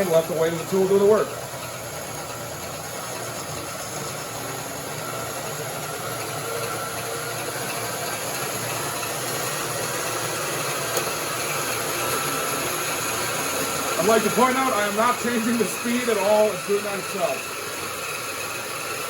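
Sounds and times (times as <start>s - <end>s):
bandsaw cutting steel plate: 3.0s - 19.0s.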